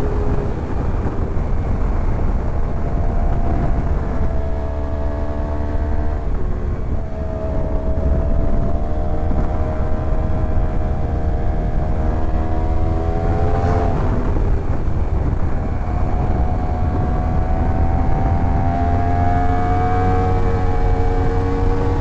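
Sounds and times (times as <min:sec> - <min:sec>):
motorcycle engine accelerating: 0:00.0 - 0:22.0
wind rumble: 0:00.0 - 0:22.0.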